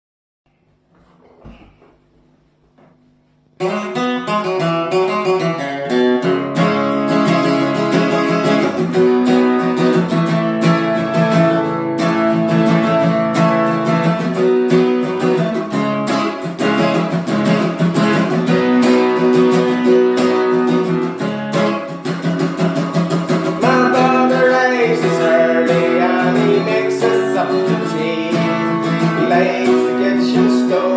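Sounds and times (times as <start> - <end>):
acoustic guitar picking and strumming: 2.6 - 30.9.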